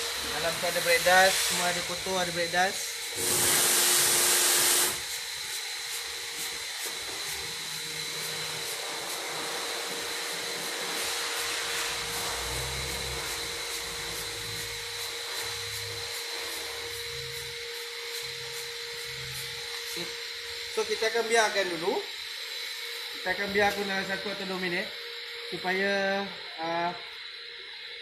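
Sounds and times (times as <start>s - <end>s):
loud spray hiss: 0.0s - 27.0s
machine drone with high whine: 0.0s - 28.0s.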